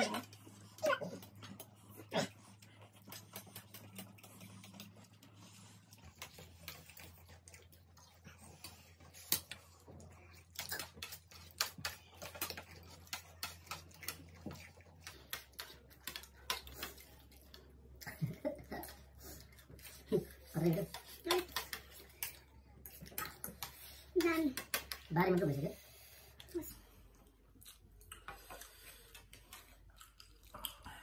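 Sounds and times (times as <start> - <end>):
people chewing noodles: 0.0 - 31.0.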